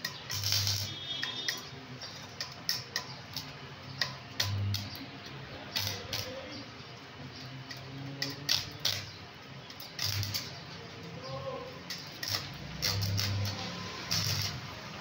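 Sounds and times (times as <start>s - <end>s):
metallic clicks and taps: 0.0s - 6.4s, 7.6s - 10.6s, 11.8s - 14.6s.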